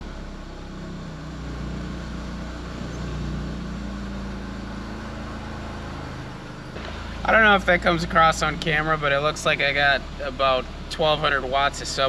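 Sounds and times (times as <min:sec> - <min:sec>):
car engine idling with low hum: 0:00.0 - 0:12.0.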